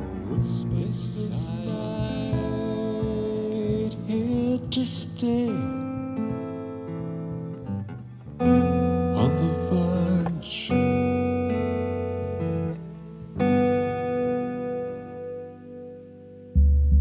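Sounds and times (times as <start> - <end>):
acoustic guitar chords strummed: 0.0 - 17.0.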